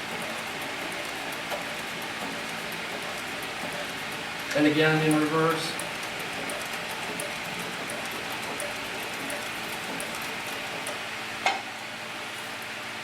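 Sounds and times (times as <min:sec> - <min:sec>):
sewing machine stitching leather: 0:00.0 - 0:11.0.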